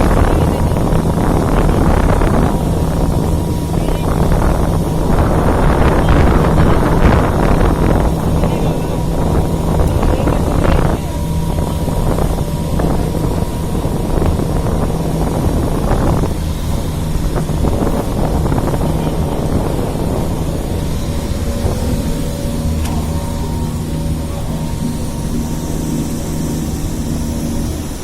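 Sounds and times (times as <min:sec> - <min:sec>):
boat engine humming: 0:00.0 - 0:28.0
rushing noise: 0:00.0 - 0:28.0
wind buffeting microphone: 0:00.0 - 0:28.0.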